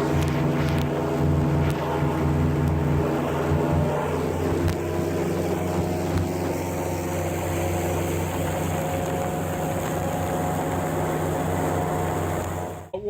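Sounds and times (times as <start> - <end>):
airboat engine and propeller: 0.0 - 13.0.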